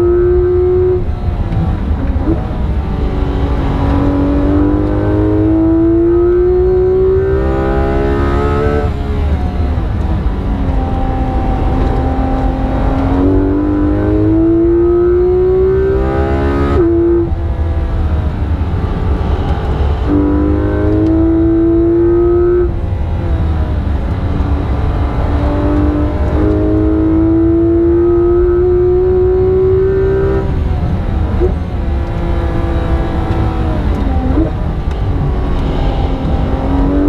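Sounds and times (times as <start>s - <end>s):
car engine revving hard: 0.0s - 1.6s, 2.2s - 9.4s, 10.6s - 22.8s, 24.4s - 37.0s.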